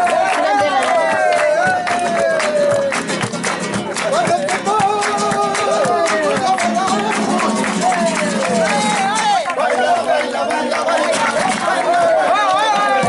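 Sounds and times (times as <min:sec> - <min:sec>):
strummed acoustic guitar: 0:00.1 - 0:10.1, 0:10.7 - 0:13.0.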